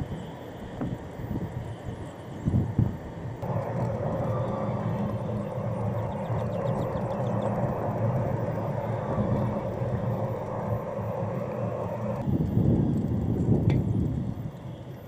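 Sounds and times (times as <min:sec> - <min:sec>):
mid-pitched whine: 0:00.0 - 0:15.0
golf cart motor hum: 0:02.0 - 0:14.9.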